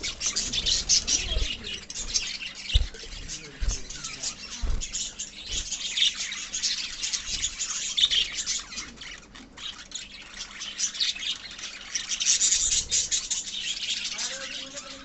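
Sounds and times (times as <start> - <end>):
parrots chirping and chattering: 0.0 - 15.0.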